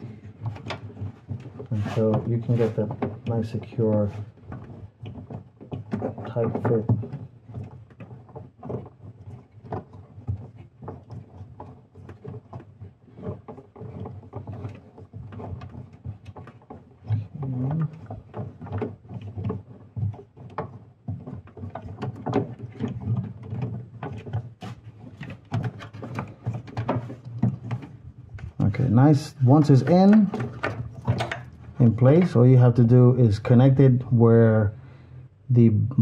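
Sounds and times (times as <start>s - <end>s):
plastic and rubber clicks and rubbing: 0.0s - 32.9s.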